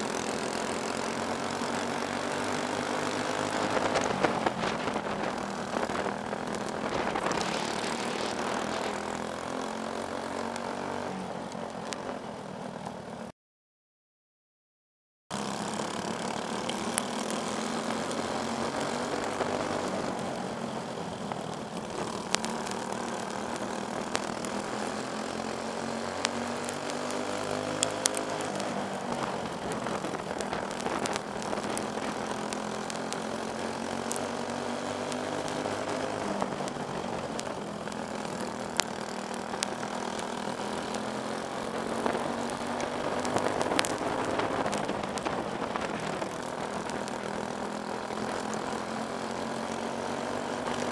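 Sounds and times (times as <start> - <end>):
kart engines racing: 0.0 - 13.2, 15.4 - 50.9.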